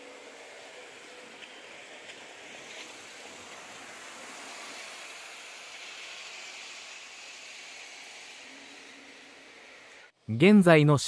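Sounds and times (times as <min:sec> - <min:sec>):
distant road traffic: 0:00.0 - 0:10.1
background hiss: 0:00.0 - 0:11.0.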